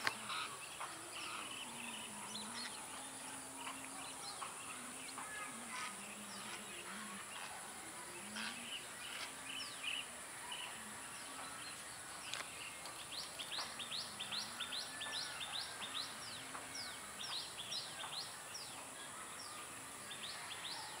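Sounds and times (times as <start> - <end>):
bird chirping: 0.0 - 21.0
steady high-pitched hiss: 0.0 - 21.0.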